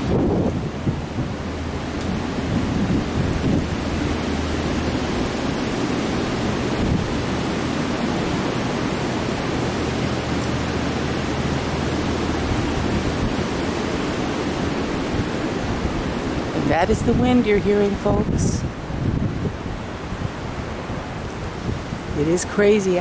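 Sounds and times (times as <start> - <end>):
gusty wind through treetops: 0.0 - 23.0
wind buffeting microphone: 0.0 - 23.0.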